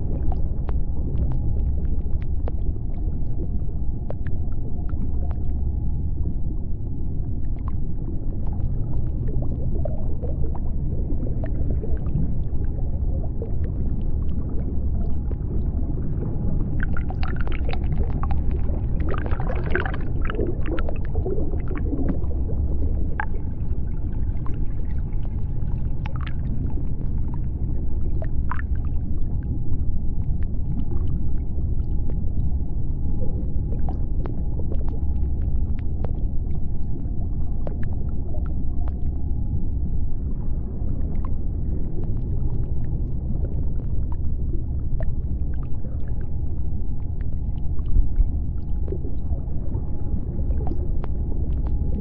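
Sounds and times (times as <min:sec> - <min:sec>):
deep underwater rumble: 0:00.0 - 0:52.0
faint steady hum: 0:00.0 - 0:52.0.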